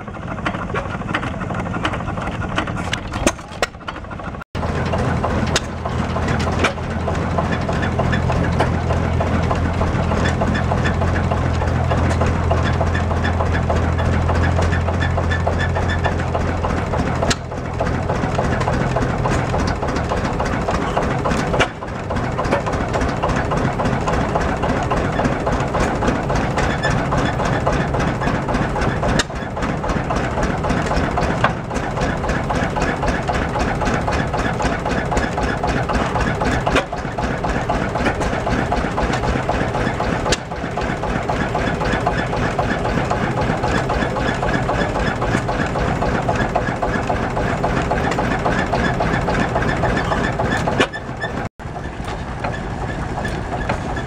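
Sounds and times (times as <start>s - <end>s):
antique flywheel engine running: 0.0s - 54.0s.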